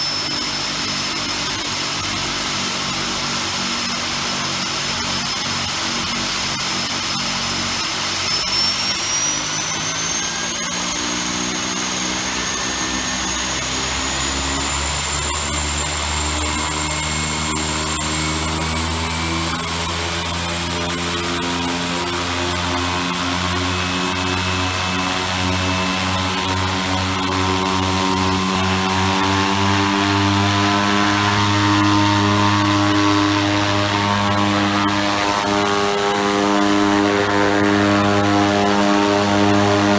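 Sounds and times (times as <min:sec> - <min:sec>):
deep propeller drone: 0:00.0 - 0:39.9
high turbine whine: 0:00.0 - 0:39.9.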